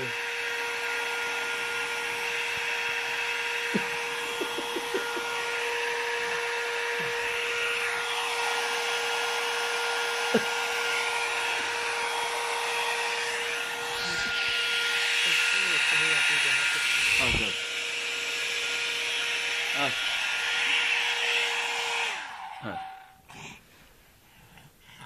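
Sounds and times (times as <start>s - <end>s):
hair dryer running: 0.0s - 23.3s.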